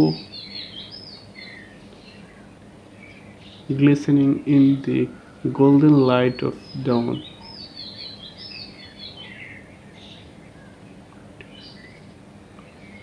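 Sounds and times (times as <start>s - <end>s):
faint background noise: 0.0s - 13.0s
songbird chirping: 0.0s - 13.0s.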